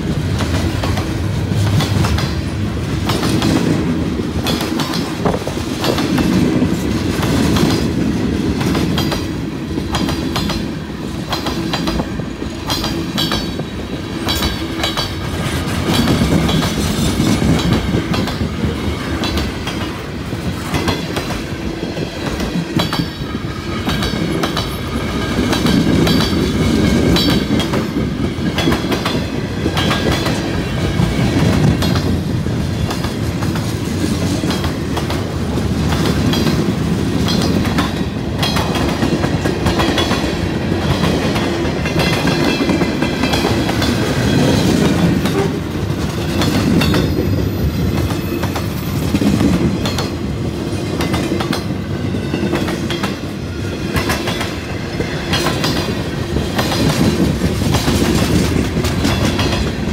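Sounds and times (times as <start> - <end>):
train wheels rumbling on rail: 0.0 - 59.9
wheels clickety-clack on rail joints: 0.0 - 59.9.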